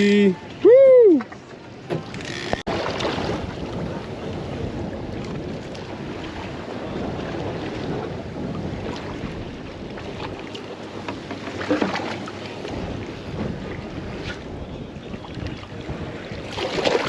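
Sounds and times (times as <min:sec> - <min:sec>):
rough sea washing: 0:00.0 - 0:17.0
wind buffeting microphone: 0:02.0 - 0:17.0.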